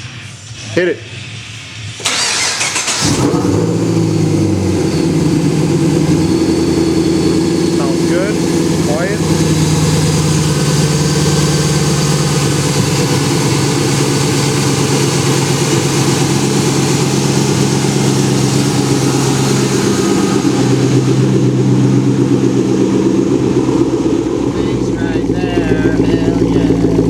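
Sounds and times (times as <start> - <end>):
car engine idling: 1.9 - 27.0.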